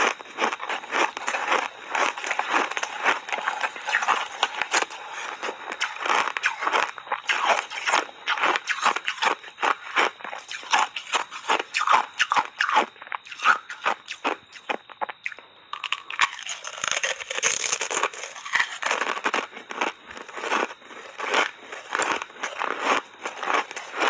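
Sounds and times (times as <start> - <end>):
crunching and chewing ice: 0.0 - 24.0.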